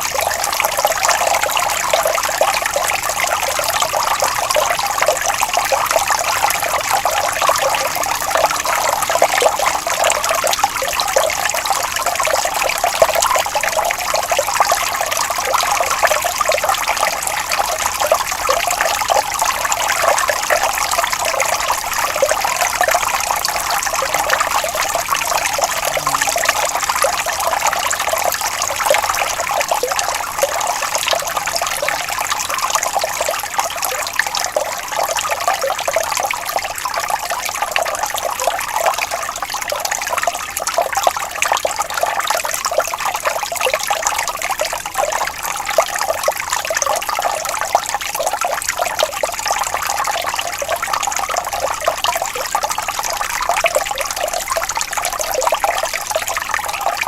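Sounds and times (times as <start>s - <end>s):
water flowing and trickling: 0.0s - 57.0s.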